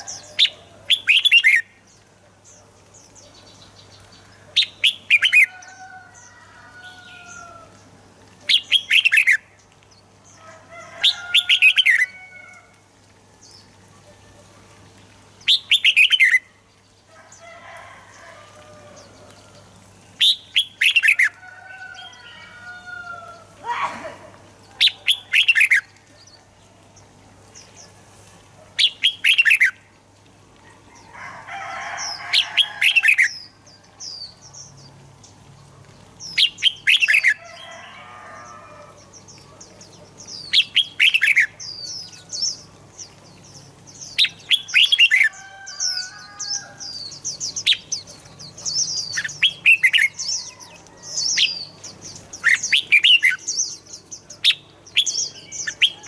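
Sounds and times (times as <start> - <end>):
bulbuls singing: 0.0 - 56.0.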